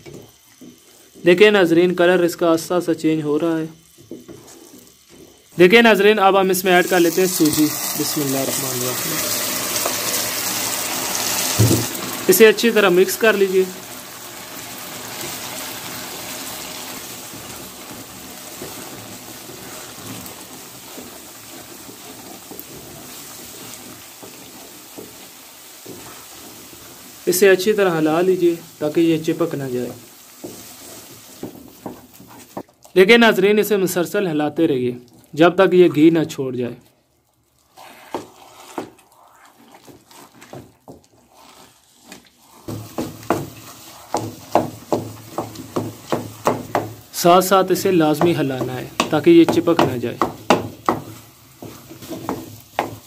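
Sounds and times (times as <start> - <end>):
syrup sizzling and bubbling in pot: 0.0 - 53.0
wooden spoon stirring thick mixture: 0.0 - 53.0.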